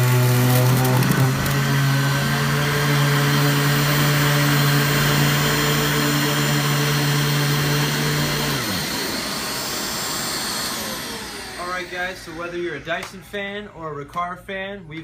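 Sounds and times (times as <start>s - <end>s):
vacuum cleaner running: 0.0s - 13.7s.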